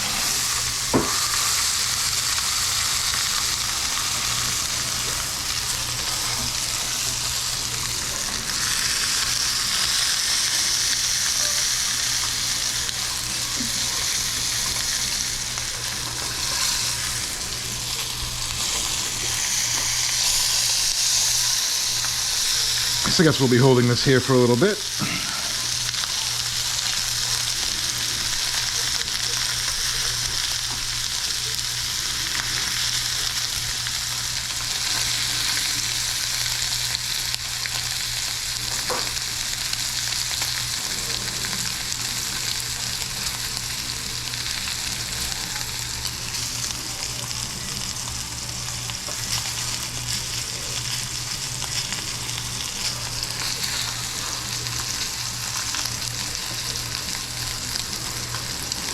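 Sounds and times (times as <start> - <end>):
meat sizzling in a pan: 0.0 - 58.9.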